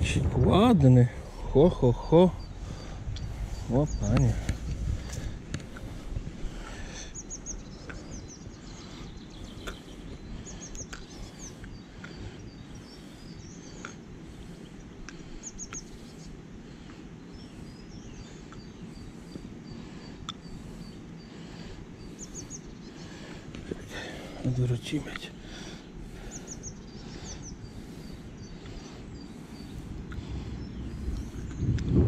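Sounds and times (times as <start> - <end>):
low outdoor rumble: 0.0 - 32.0
small birds singing: 0.0 - 32.0.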